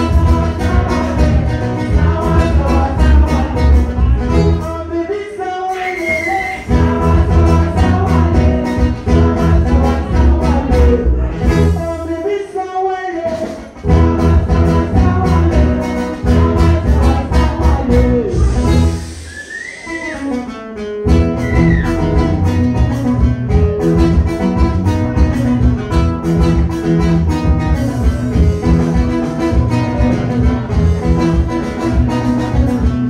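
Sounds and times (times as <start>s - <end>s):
sliding high guitar notes: 0.0s - 4.9s, 5.6s - 12.0s, 13.8s - 33.0s
band music with guitar and bass: 0.0s - 33.0s.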